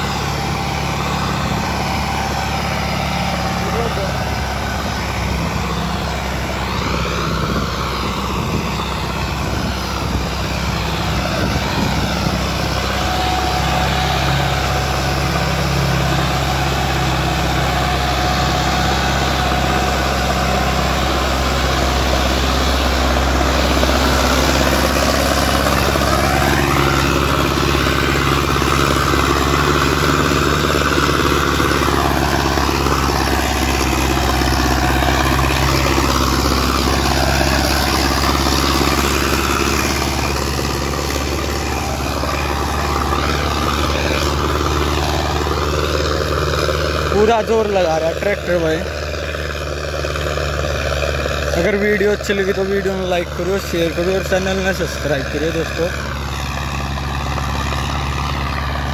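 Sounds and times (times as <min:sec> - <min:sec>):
high whine: 0:00.0 - 0:58.9
tractor diesel engine running: 0:00.0 - 0:58.9.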